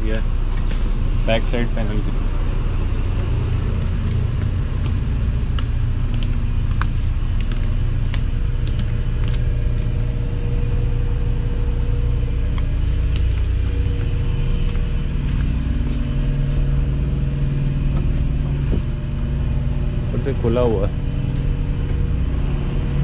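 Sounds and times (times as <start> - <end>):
engine-room machinery rumble: 0.0 - 23.0.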